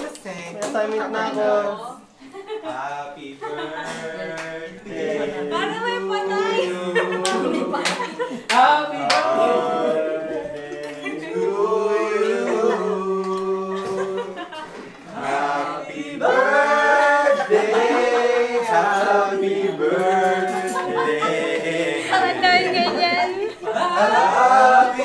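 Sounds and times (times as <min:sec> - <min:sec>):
group singing unaccompanied: 0:00.6 - 0:25.0.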